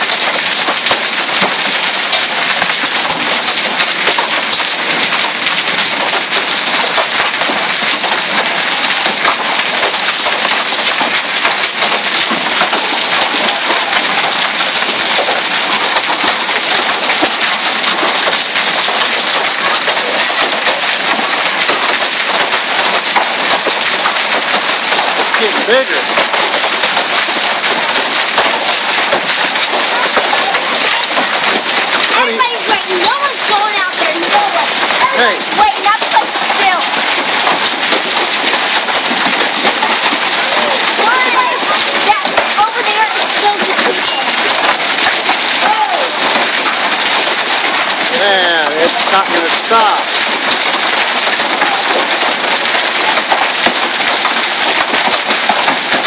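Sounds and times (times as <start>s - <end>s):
hailstones clattering: 0.0s - 56.0s
rain hissing: 0.0s - 56.0s.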